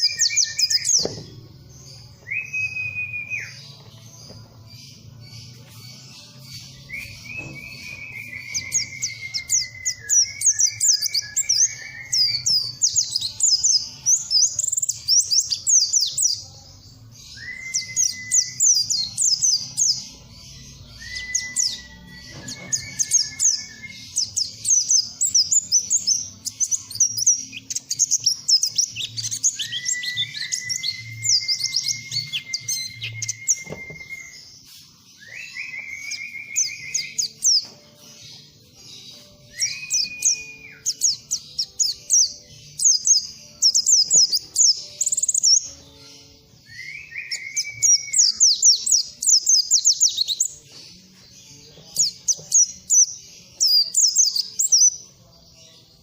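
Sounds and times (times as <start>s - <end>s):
bird twittering and whistling: 0.0s - 16.5s, 17.2s - 55.0s.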